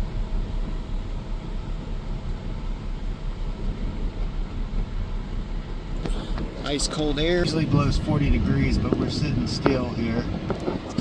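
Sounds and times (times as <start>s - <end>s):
air conditioning blowing: 0.0s - 11.0s
car engine idling: 0.0s - 11.0s.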